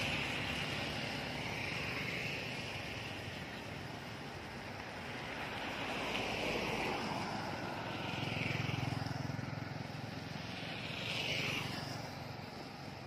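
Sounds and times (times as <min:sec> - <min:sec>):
motorbikes passing: 0:00.0 - 0:13.0.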